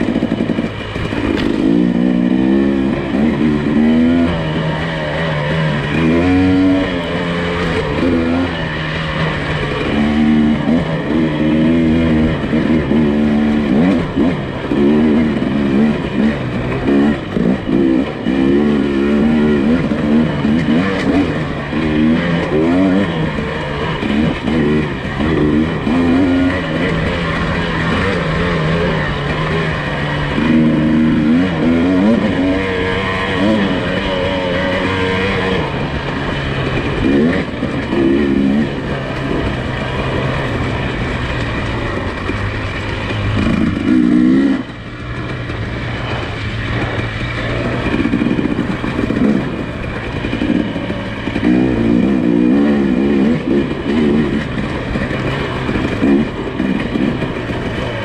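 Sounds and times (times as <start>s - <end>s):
suv engine revving: 0.0s - 58.0s.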